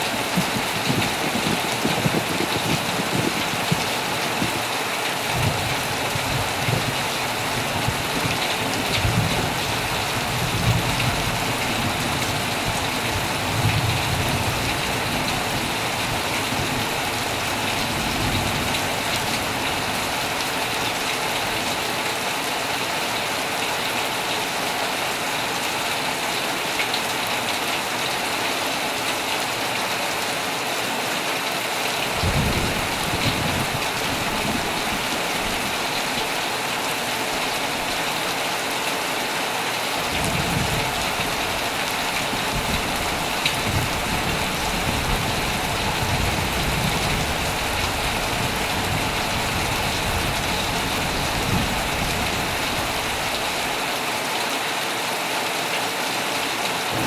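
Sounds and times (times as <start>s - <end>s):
heavy rain on a tent: 0.0s - 57.0s.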